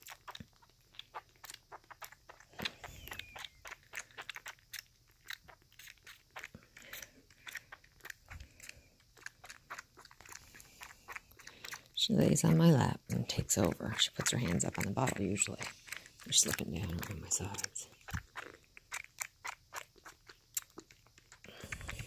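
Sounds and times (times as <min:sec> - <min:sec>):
kitten suckling and slurping: 0:00.0 - 0:22.0.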